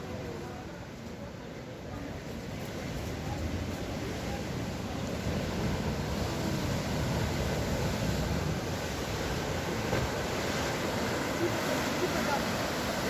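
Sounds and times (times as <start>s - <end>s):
surf breaking on shore: 2.4s - 13.0s.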